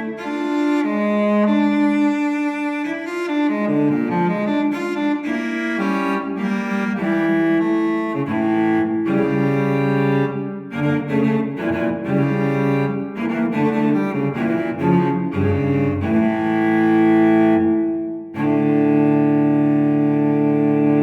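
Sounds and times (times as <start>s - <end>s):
slow low melody: 0.0s - 21.0s.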